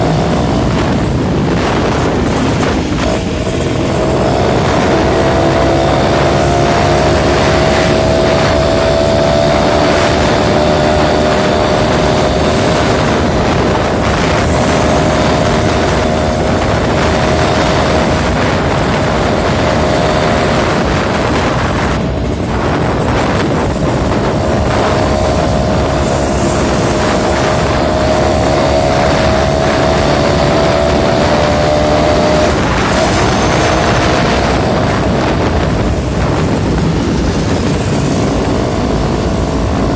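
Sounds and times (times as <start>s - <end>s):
two-stroke motorcycle engine running: 0.0s - 39.9s
wind and road noise: 0.0s - 39.9s.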